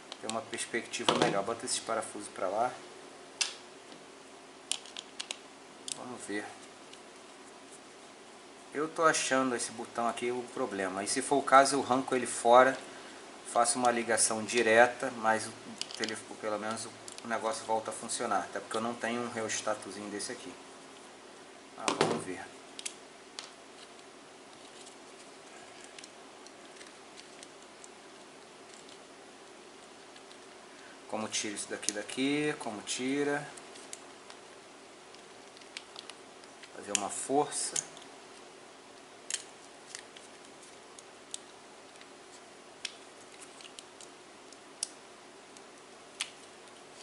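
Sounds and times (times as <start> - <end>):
steady low hiss: 0.0 - 47.0.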